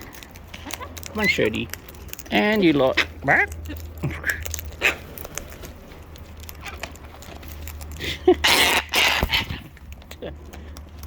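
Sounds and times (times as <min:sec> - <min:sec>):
birds pecking in a bucket: 0:00.0 - 0:11.0.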